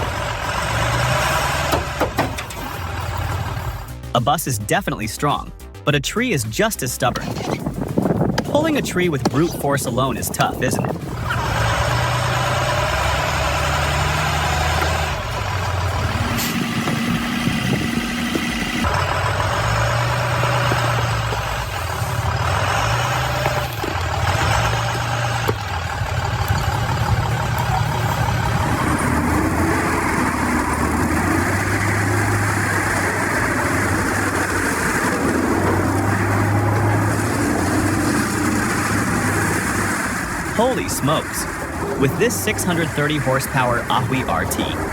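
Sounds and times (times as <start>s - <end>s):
heavy vehicle engine running: 0.0s - 4.2s, 7.6s - 44.9s.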